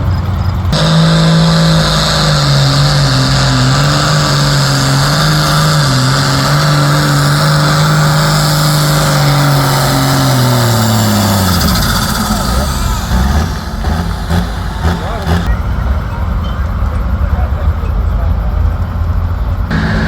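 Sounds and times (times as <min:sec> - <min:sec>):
tractor engine at high revs: 0:00.0 - 0:20.0.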